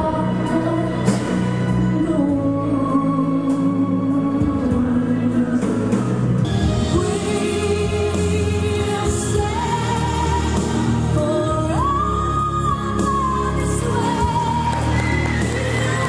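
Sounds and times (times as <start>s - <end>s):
person singing a song: 0.0s - 16.0s
steady musical accompaniment: 0.0s - 16.0s.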